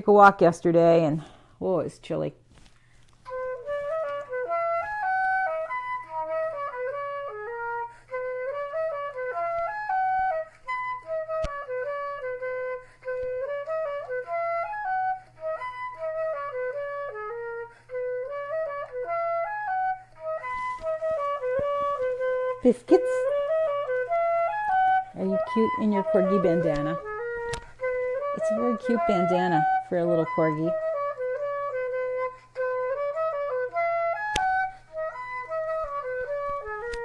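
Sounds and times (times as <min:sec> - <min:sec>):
flute-like melody: 0:03.2 - 0:37.0.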